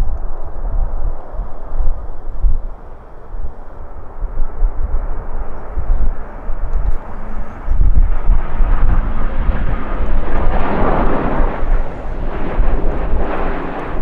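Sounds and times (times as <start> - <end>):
jet airliner engines: 0.0 - 14.0
wind buffeting microphone: 0.0 - 14.0.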